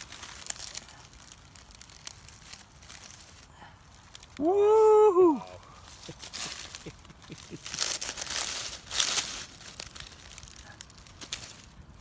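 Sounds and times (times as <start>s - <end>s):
dry leaf litter crackling: 0.0s - 12.0s.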